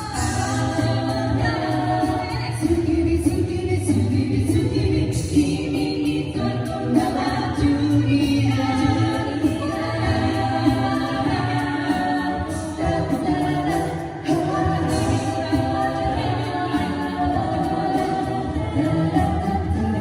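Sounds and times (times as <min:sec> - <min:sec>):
sung bass line: 0:00.0 - 0:20.0
voices singing in harmony: 0:00.0 - 0:20.0.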